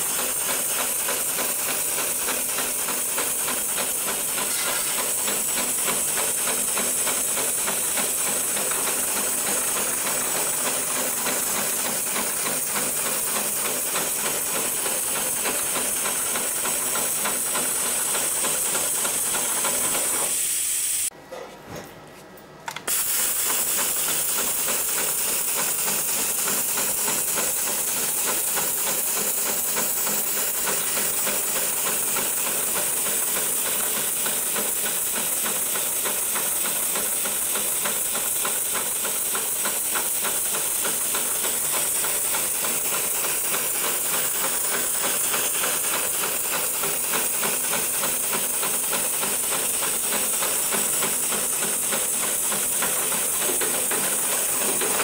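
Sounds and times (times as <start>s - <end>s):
sewing machine stitching: 0.0s - 20.4s, 22.9s - 55.0s.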